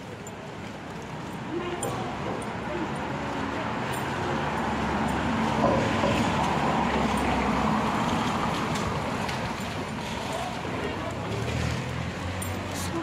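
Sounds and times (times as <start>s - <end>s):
vehicle passing: 1.5s - 13.0s.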